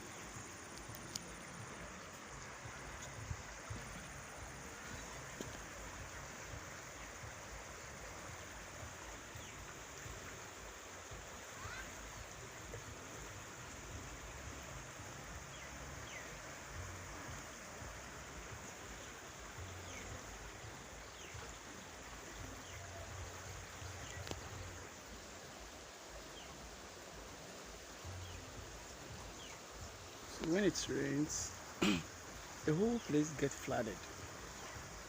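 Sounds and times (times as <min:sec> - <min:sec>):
floodwater rushing: 0:00.0 - 0:35.0.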